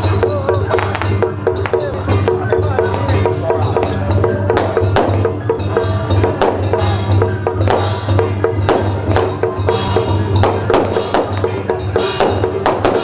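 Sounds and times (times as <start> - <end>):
clacking percussion: 0.0 - 13.0
drum strikes: 0.0 - 13.0.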